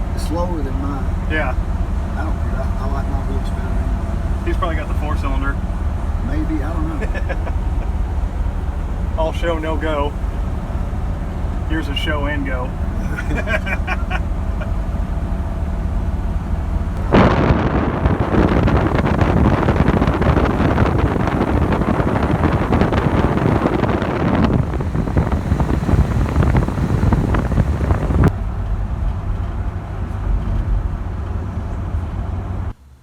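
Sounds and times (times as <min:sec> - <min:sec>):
rush of engine and wind noise: 0:00.0 - 0:32.8
car engine rumble: 0:00.0 - 0:33.0.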